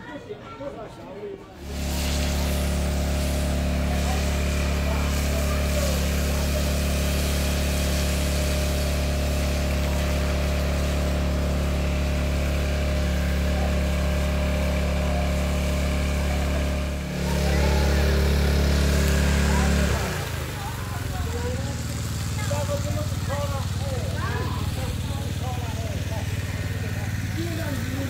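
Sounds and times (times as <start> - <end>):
engine running low hum: 1.6 - 28.0.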